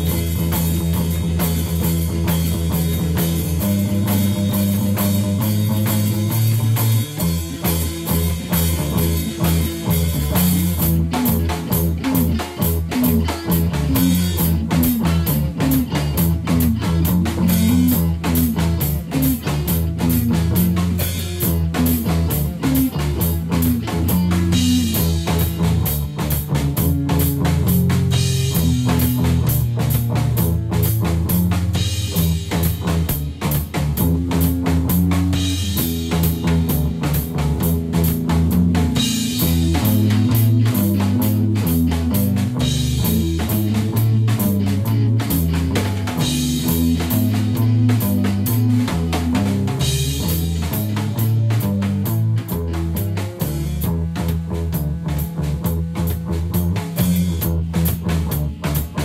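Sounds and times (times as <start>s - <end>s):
rock music: 0.0s - 59.0s.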